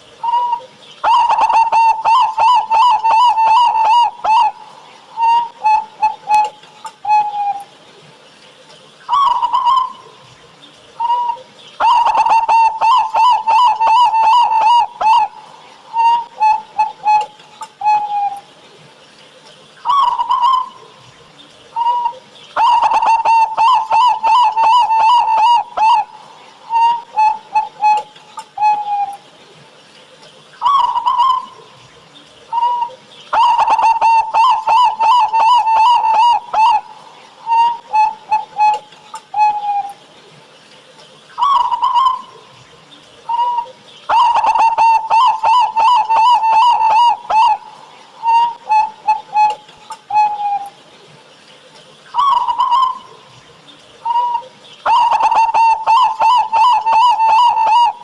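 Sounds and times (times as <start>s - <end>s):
doves cooing: 0.0s - 8.0s, 9.1s - 58.0s.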